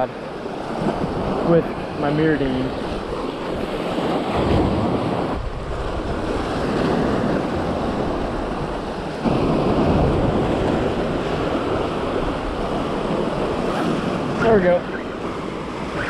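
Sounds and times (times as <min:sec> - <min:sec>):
wind buffeting the microphone: 0:02.6 - 0:16.0.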